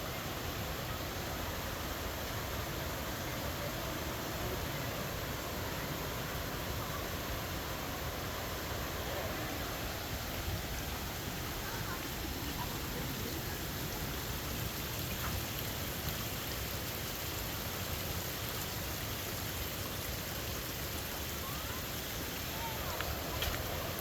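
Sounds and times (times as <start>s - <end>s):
waterfall roar: 0.0s - 24.0s.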